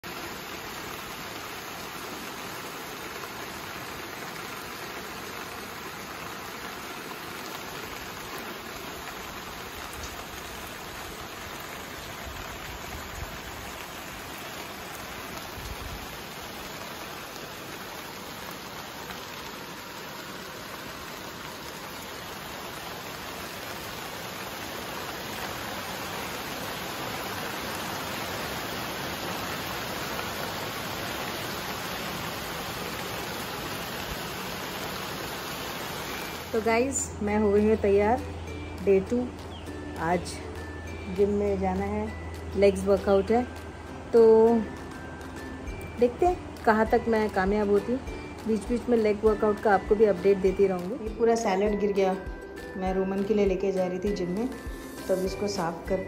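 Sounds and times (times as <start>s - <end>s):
heavy rain on trees and grass: 0.0s - 56.0s.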